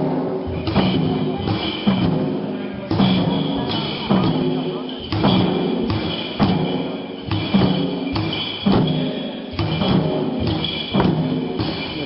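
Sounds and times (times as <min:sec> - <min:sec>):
barrel drum beaten: 0:00.0 - 0:12.0.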